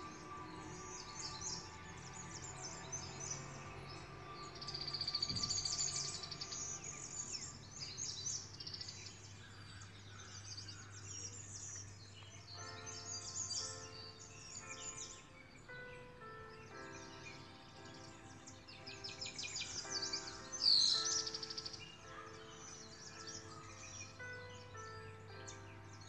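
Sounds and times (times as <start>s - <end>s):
bird trill: 0.0s - 26.0s
birds chirping: 0.0s - 26.0s
soft background music: 0.0s - 26.0s.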